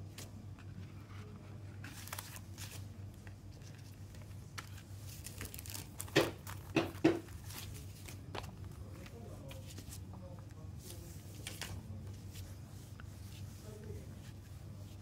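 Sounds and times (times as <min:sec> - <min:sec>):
low steady hum: 0:00.0 - 0:15.0
paper and plastic sleeve rustling: 0:00.1 - 0:15.0.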